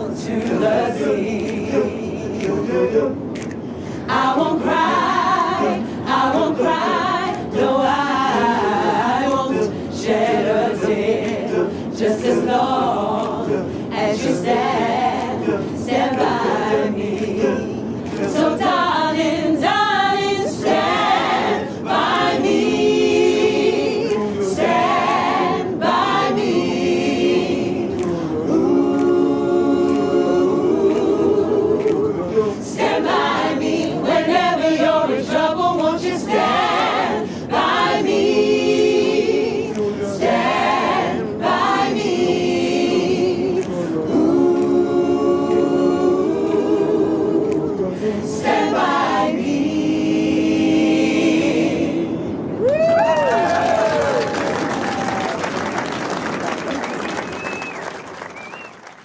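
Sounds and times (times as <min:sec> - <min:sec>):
voices singing a cappella: 0:00.0 - 0:55.9.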